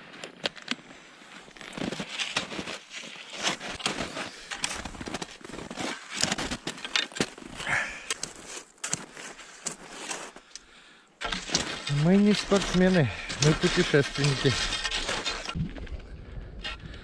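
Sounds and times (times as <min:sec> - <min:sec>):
crunching and rustling of snow: 0:00.0 - 0:10.5, 0:11.2 - 0:15.6
sharp clicks of skis: 0:00.0 - 0:15.6.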